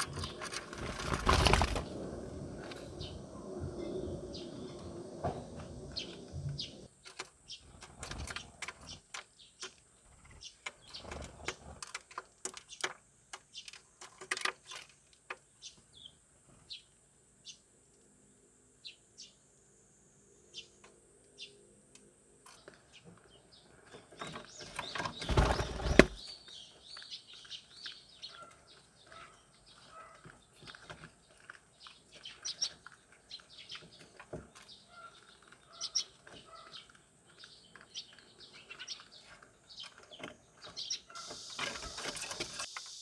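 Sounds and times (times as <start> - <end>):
sparrows chirping: 0.0 - 17.8, 18.8 - 19.5, 20.4 - 21.7, 22.4 - 43.0
low steady background noise: 0.0 - 43.0.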